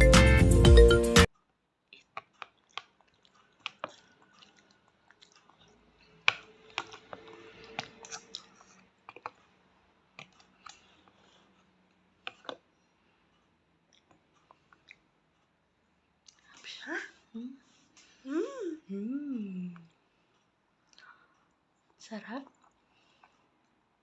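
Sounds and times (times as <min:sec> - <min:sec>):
child chewing: 0:01.3 - 0:16.6, 0:19.7 - 0:24.0.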